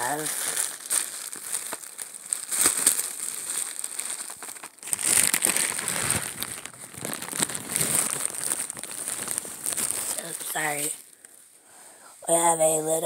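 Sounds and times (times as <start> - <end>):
bubble wrap crinkling: 0.0 - 11.6.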